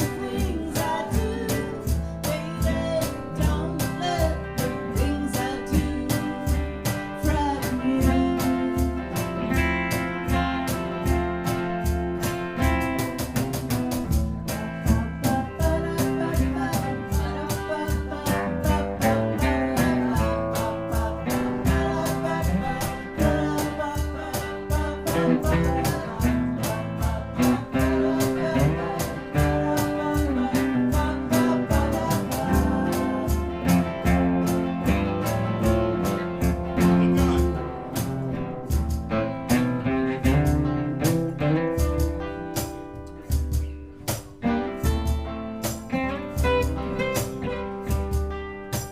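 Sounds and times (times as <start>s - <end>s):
acoustic guitar strumming: 0.0s - 48.9s.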